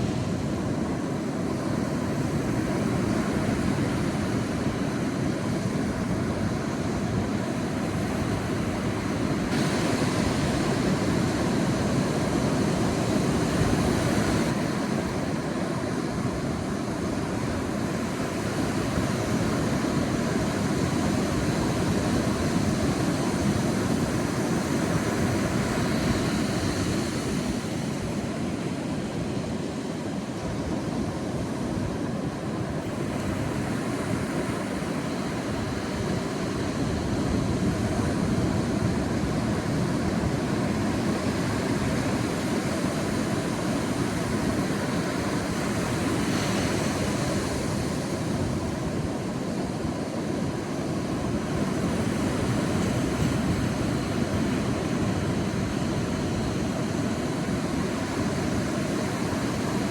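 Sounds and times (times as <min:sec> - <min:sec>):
sea waves washing onto beach: 0:00.0 - 0:59.9.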